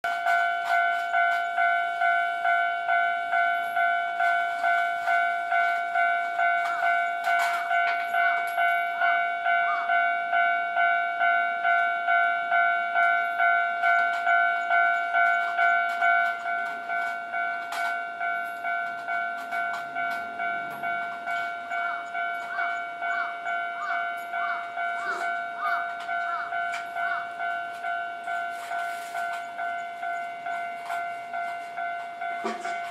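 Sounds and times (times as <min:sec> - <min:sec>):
level crossing alarm ringing: 0:00.0 - 0:32.9.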